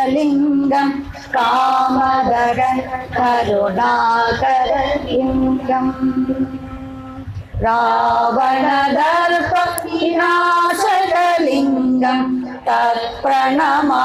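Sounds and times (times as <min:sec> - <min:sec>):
women singing a hymn in unison: 0:00.0 - 0:14.0.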